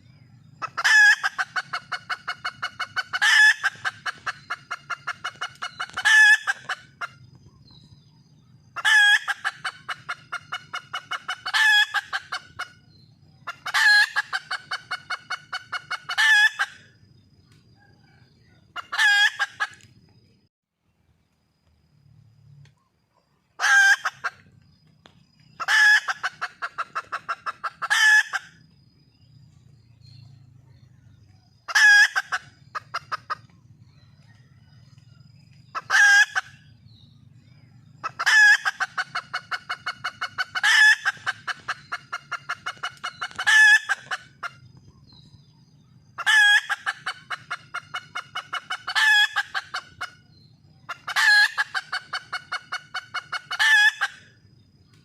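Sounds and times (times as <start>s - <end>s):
hen calling and clucking: 0.0s - 20.0s, 23.5s - 35.0s, 35.6s - 55.0s.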